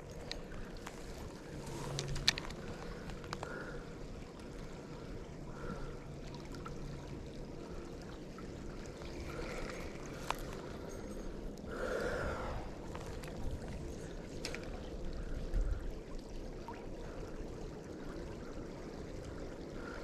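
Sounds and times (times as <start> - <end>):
creek water trickling: 0.0 - 20.0.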